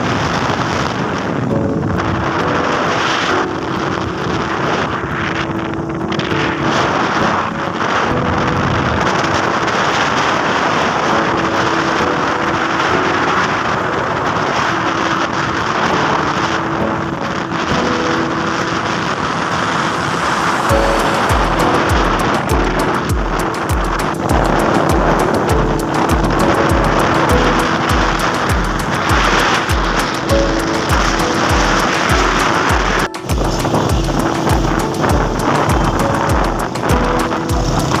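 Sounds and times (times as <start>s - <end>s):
motorcycle road noise: 0.0s - 38.0s
wind rush on microphone: 0.0s - 38.0s.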